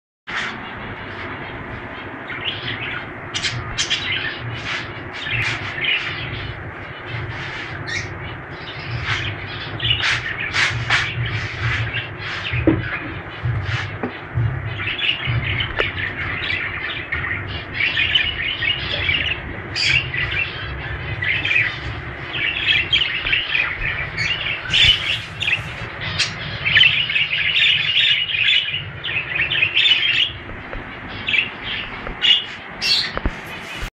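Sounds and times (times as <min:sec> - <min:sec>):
budgerigars chattering and warbling: 0:00.3 - 0:33.9.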